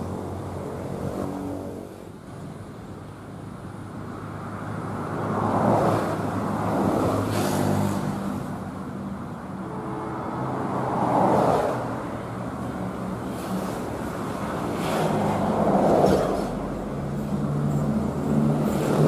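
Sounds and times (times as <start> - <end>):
diesel locomotive engine hum: 0.0 - 19.0
road vehicles passing: 0.0 - 19.0.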